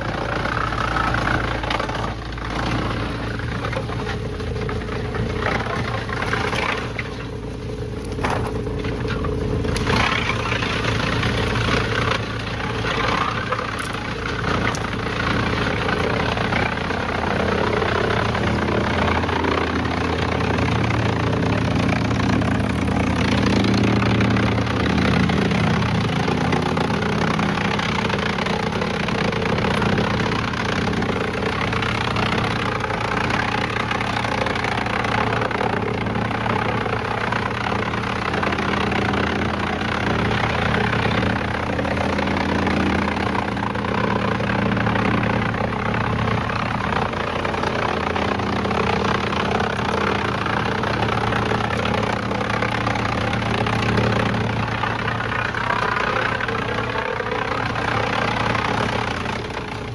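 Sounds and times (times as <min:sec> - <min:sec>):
heavy machine engine running: 0:00.0 - 0:59.9
machinery clatter: 0:00.0 - 0:59.9.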